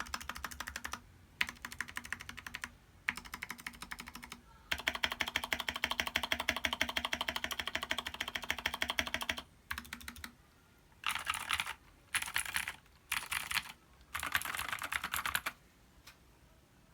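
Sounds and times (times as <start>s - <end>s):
mechanical keyboard typing: 0.0s - 10.4s, 11.0s - 15.6s.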